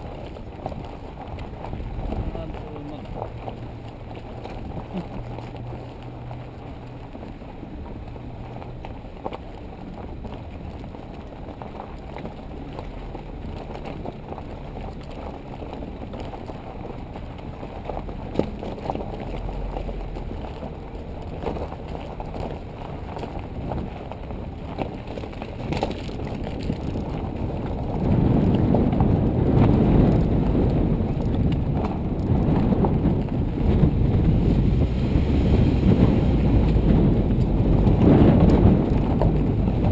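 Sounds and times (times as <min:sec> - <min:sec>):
vehicle rumbling over gravel: 0:00.0 - 0:39.9
wind buffeting: 0:00.0 - 0:39.9.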